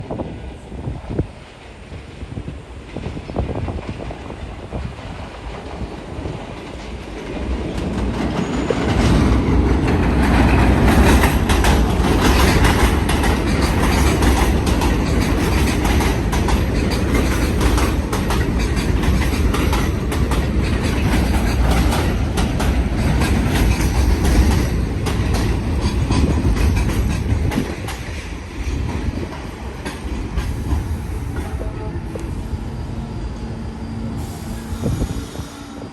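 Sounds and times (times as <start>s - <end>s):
subway train passing: 0.0s - 35.9s
wheels clacking over rail joints: 2.9s - 31.9s.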